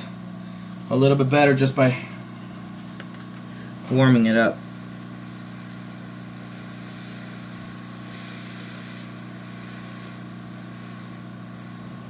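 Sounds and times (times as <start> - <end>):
hot air station hum and hiss: 0.0 - 12.0.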